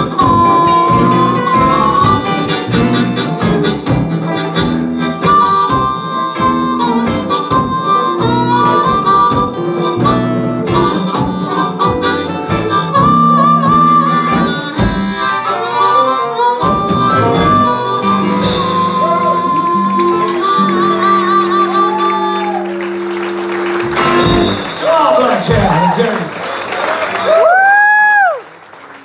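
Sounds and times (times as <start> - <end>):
blues harmonica lead: 0.0 - 26.1
live blues band: 0.0 - 28.4.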